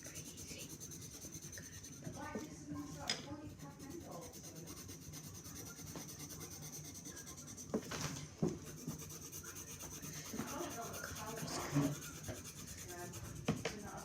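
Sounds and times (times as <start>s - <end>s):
drawing tool rubbing on paper: 0.0s - 7.9s, 8.6s - 14.0s.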